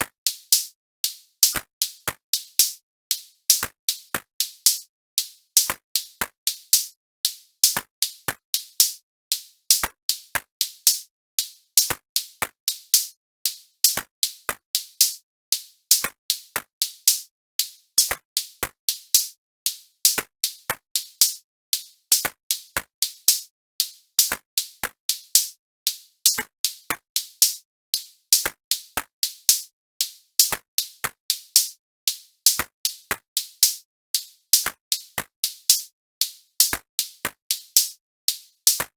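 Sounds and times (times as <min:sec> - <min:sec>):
drum machine beat: 0:03.5 - 0:25.6, 0:26.3 - 0:38.9.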